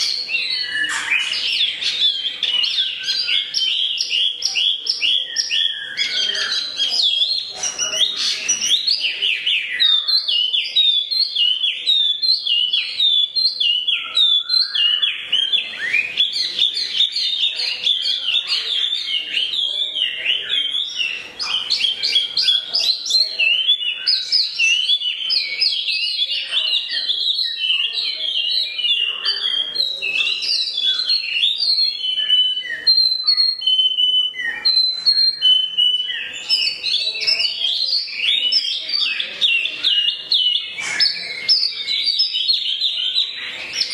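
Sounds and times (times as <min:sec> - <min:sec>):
songbird singing: 0:00.0 - 0:43.9.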